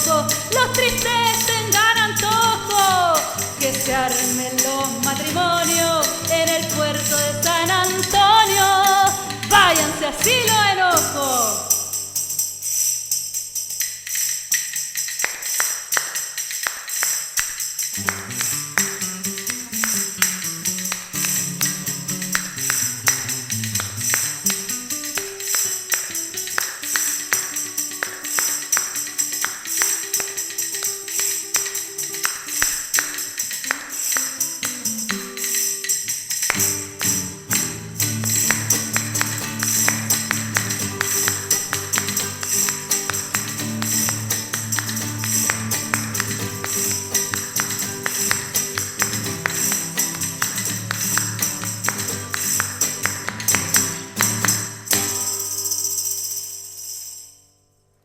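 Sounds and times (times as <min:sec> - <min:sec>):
tambourine jingling: 0:00.0 - 0:57.6.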